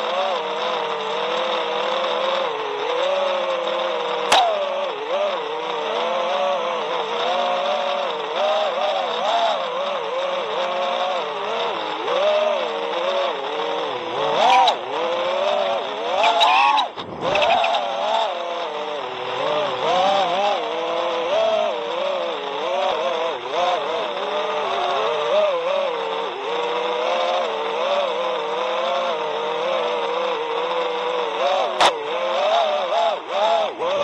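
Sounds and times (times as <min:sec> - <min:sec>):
drone motors buzzing whine: 0:00.0 - 0:34.0.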